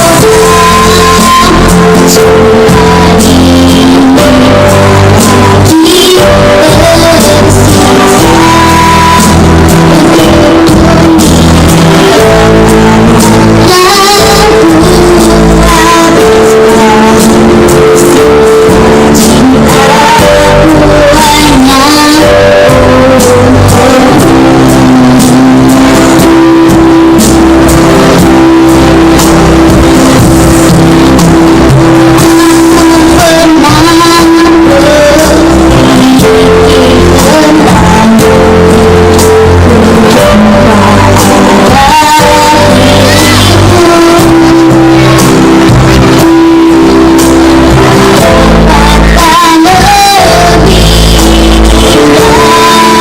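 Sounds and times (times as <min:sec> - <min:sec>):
backing track chords: 0:00.0 - 0:53.0
person singing: 0:00.0 - 0:53.0.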